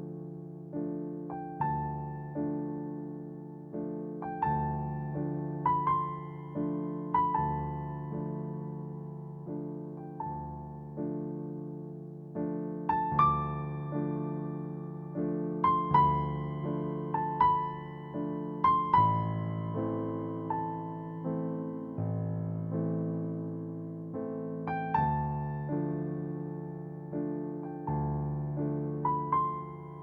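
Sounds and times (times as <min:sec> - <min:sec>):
slow solo piano: 0:00.0 - 0:30.0.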